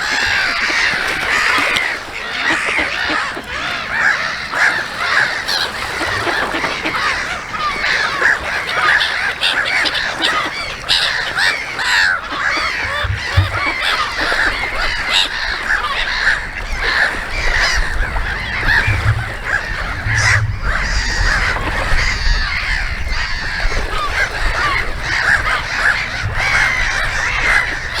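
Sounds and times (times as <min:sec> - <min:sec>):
flock of birds calling: 0:00.0 - 0:28.0.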